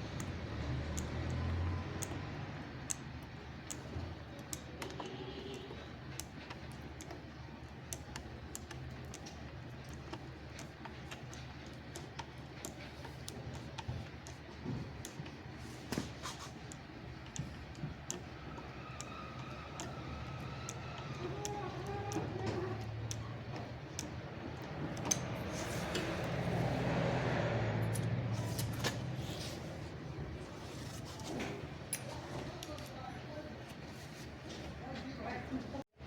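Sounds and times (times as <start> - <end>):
light clicks and taps: 0.1 - 26.6, 30.4 - 35.4.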